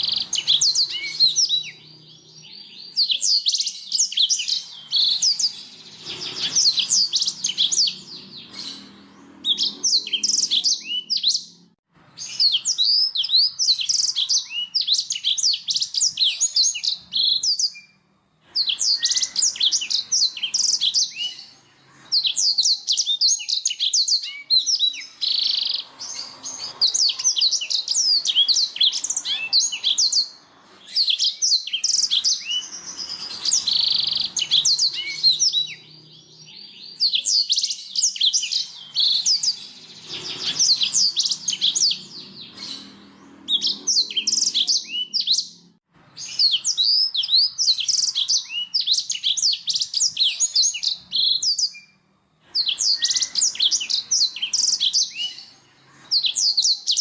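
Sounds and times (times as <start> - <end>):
canary trilling and chirping: 0.0 - 57.0.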